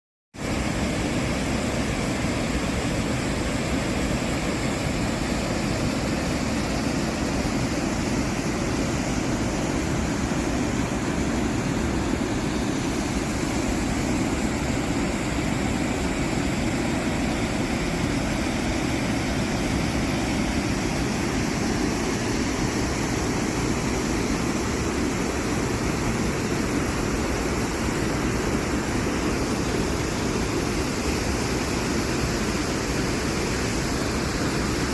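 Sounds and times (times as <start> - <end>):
fast-flowing river water rushing: 0.4 - 34.9.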